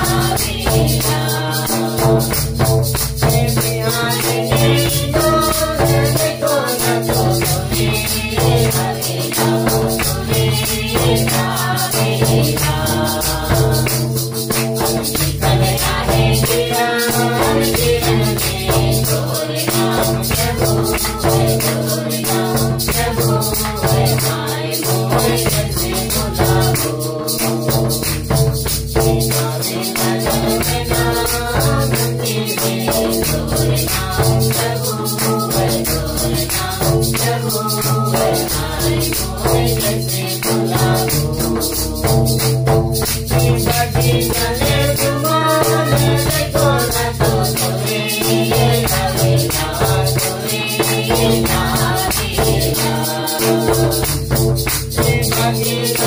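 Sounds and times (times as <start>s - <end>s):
barrel drum beat: 0.0s - 56.0s
group singing a hymn: 0.0s - 56.0s
hand clapping: 0.0s - 56.0s
rattle shaken: 0.0s - 56.0s.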